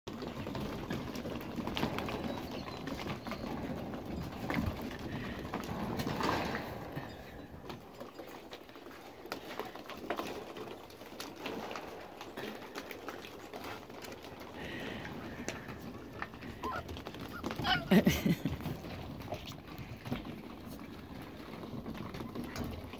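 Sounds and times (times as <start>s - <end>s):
small paws clicking on wooden boards: 0.1s - 22.9s.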